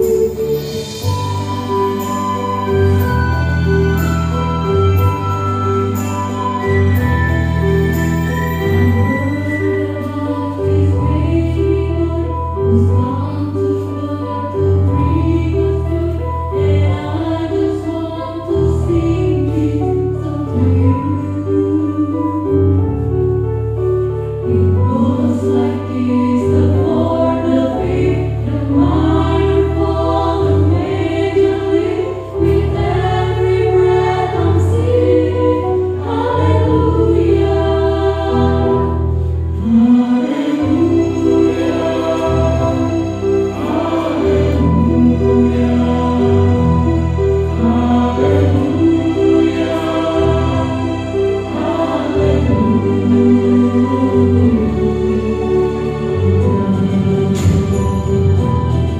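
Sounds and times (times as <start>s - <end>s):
instrumental accompaniment: 0.0s - 58.9s
mixed choir singing: 8.4s - 22.5s, 24.8s - 58.1s.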